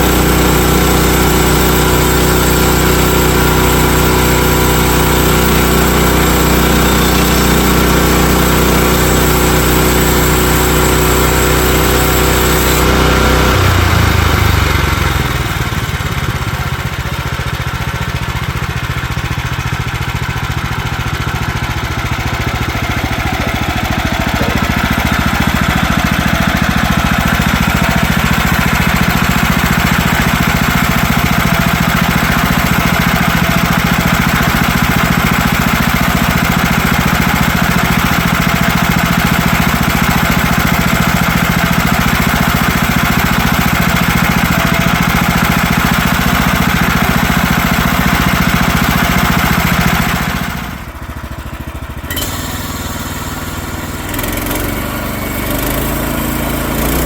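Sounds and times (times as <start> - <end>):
small gas engine running: 0.0 - 57.0.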